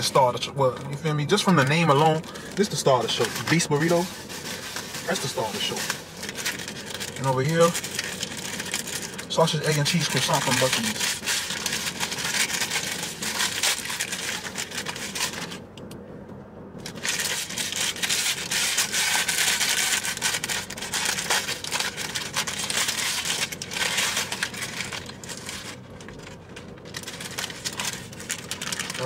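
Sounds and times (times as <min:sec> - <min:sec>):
paper wrapper crinkling: 0:00.0 - 0:15.6, 0:16.8 - 0:29.0.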